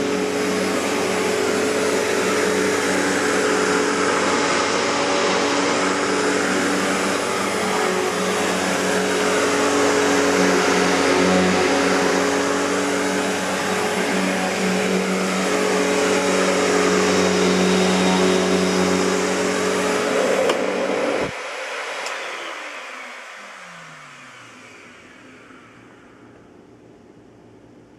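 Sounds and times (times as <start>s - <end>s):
vacuum cleaner motor running: 0.0s - 27.6s
motor spinning down whine: 0.0s - 27.9s.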